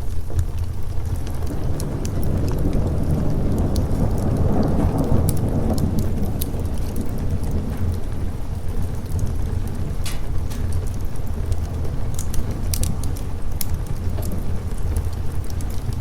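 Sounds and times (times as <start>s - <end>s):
fireplace crackling pops: 0.0s - 16.0s
low thunder rumble: 0.0s - 16.0s
steady rain: 0.0s - 16.0s.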